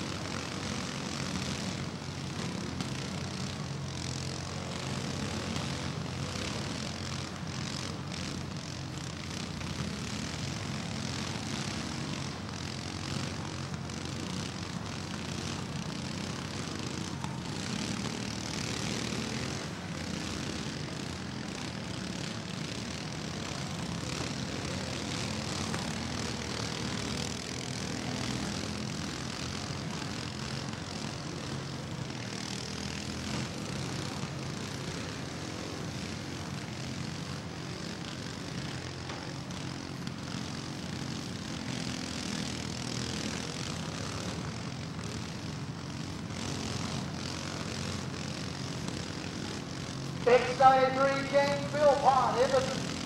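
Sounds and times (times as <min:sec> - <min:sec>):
riding lawn mower engines droning: 0:00.0 - 0:53.0.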